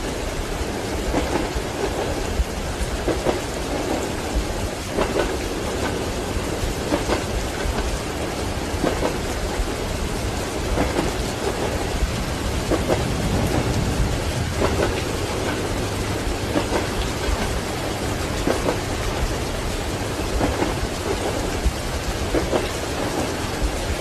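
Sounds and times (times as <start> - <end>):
heavy rain: 0.0 - 24.0
low train rumble: 0.0 - 24.0
train wheels clacking: 0.0 - 24.0.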